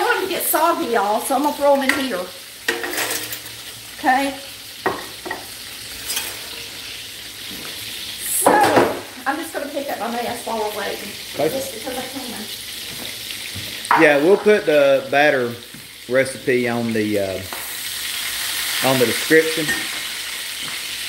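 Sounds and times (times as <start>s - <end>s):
onion rings sizzling in grease: 0.0s - 21.0s.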